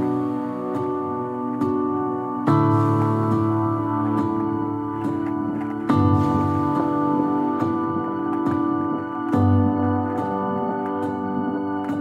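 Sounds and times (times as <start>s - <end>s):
instrumental music of held chords: 0.0s - 12.0s.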